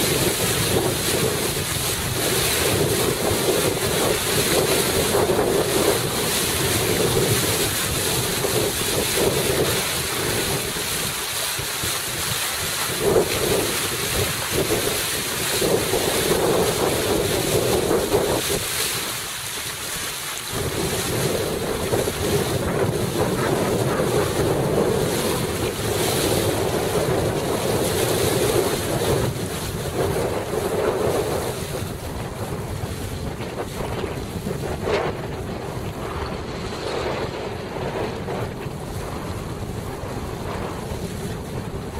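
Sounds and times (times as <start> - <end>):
water and waves rushing: 0.0 - 41.9
wind buffeting microphone: 0.0 - 41.9.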